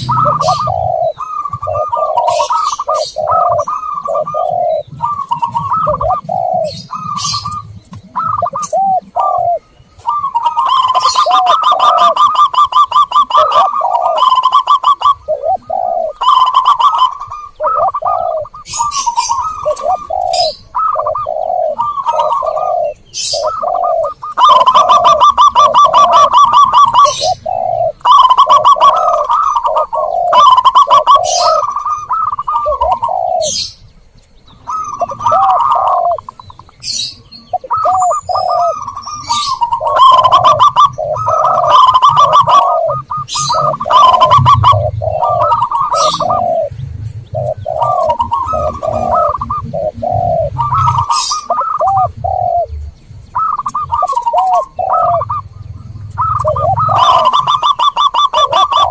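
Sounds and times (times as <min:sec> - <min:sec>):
doves cooing: 0:00.0 - 0:58.9.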